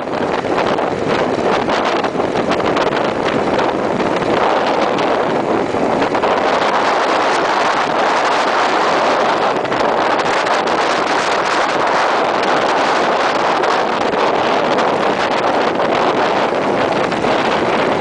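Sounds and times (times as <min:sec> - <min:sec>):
motorcycle riding: 0:00.0 - 0:18.0
wind rushing over microphone: 0:00.0 - 0:18.0.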